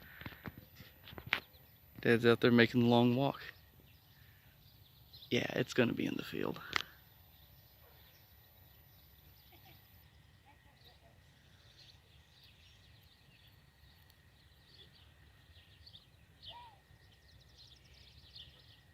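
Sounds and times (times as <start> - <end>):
small bird chirps: 0.0 - 18.9.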